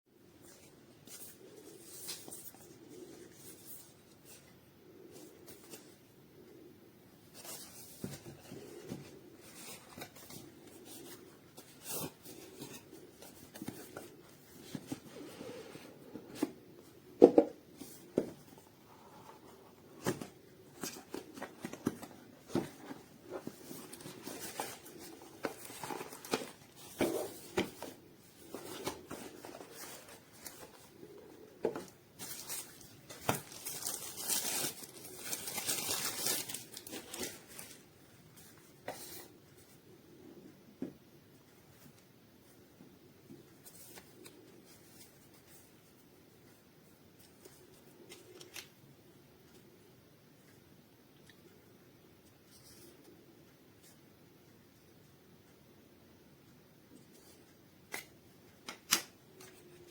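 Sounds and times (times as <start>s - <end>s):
faint steady hum: 0.1s - 59.9s.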